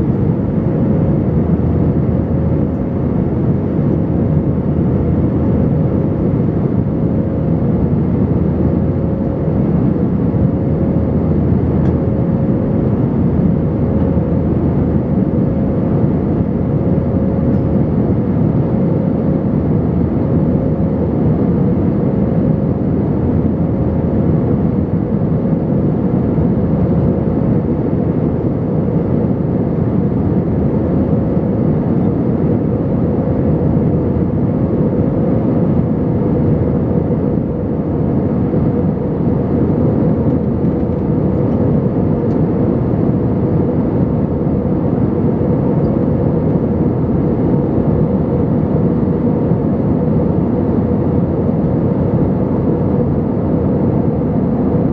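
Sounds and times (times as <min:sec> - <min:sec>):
jet engines and airflow roaring: 0:00.0 - 0:54.9.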